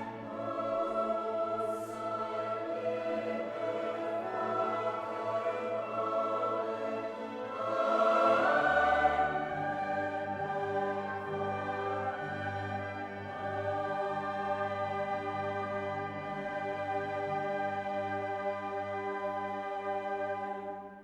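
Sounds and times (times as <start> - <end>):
choir singing sustained chords: 0.0 - 21.0
orchestral music: 0.0 - 21.0.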